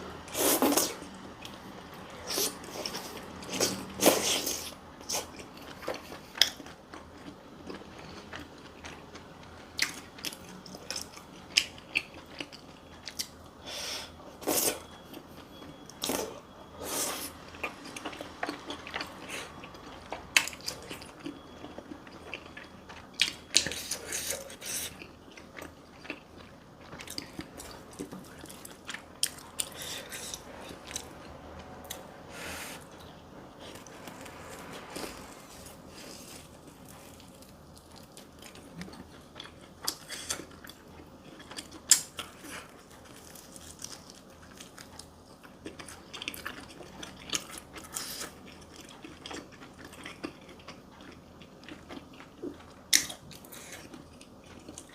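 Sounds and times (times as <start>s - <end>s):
food crunching: 0.3s - 13.4s, 14.4s - 32.1s, 32.8s - 54.9s
chewing and biting food: 0.5s - 13.4s, 14.4s - 32.1s, 32.8s - 54.9s.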